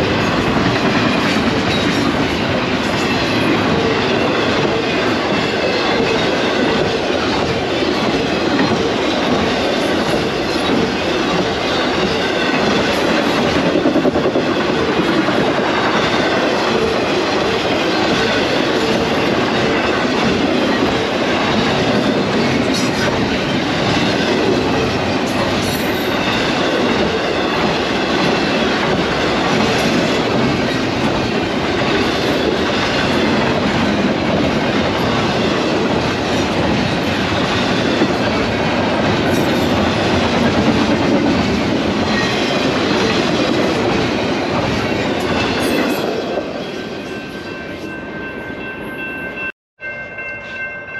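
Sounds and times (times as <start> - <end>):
freight train wheels rolling on rail: 0.0 - 49.5.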